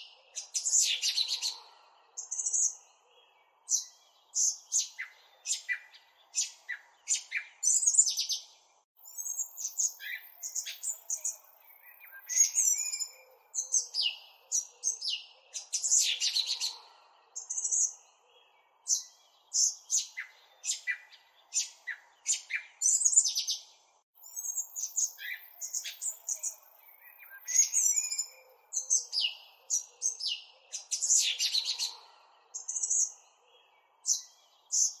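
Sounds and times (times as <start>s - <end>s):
small birds chirping and trilling: 0.0s - 35.0s.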